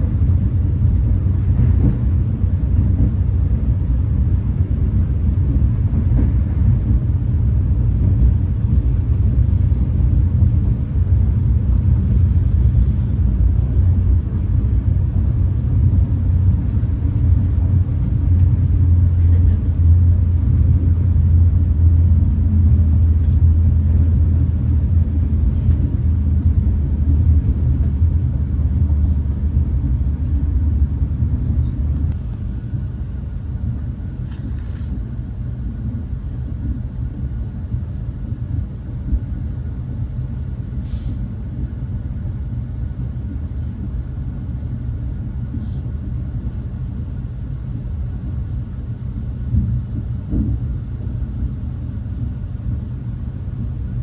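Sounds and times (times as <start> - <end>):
train rumble from inside carriage: 0.0 - 54.0.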